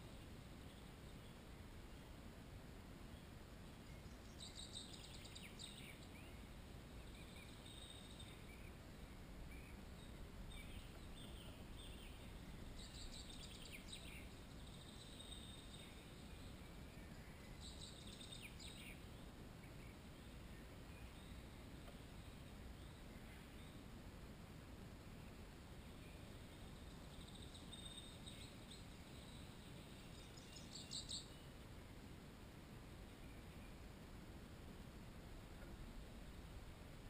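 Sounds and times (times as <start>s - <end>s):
songbird chirping: 0.0s - 37.0s.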